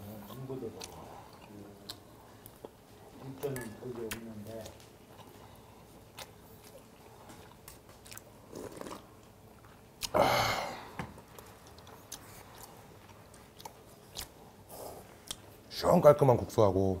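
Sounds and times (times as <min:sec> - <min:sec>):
person chewing food: 0:00.0 - 0:15.6.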